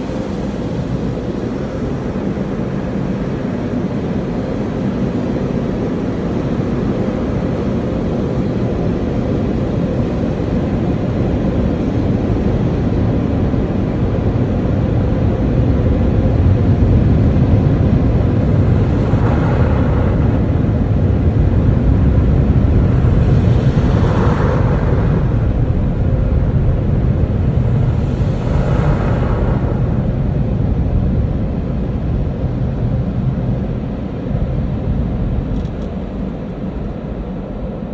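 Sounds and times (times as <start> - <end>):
car wash machinery rumble: 0.0 - 37.9.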